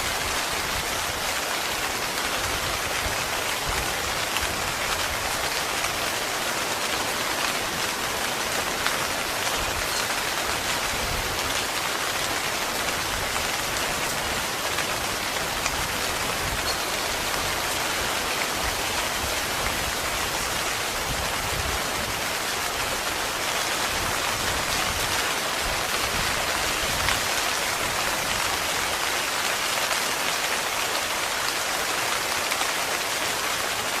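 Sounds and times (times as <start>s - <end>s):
heavy rain on a tent: 0.0s - 34.0s.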